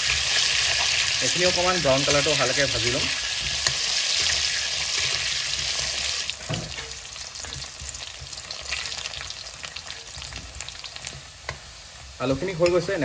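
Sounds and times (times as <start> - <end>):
potatoes sizzling in hot oil: 0.0 - 13.0
spoon scraping a pan: 2.0 - 12.9.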